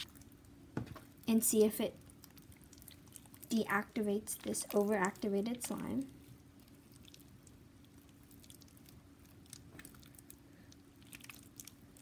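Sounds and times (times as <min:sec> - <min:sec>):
faint steady hum: 0:00.0 - 0:12.0
slime squishing by hand: 0:00.0 - 0:12.0.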